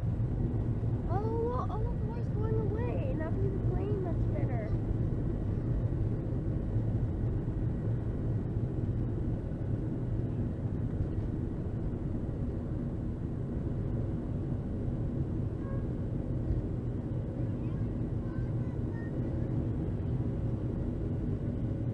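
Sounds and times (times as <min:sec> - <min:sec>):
airliner cabin engine rumble: 0:00.0 - 0:21.9.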